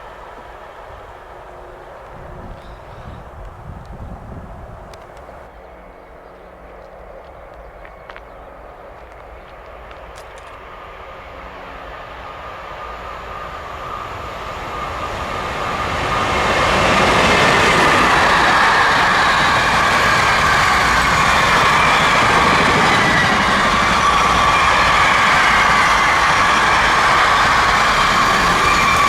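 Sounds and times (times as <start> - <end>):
train passing: 0.0 - 29.0.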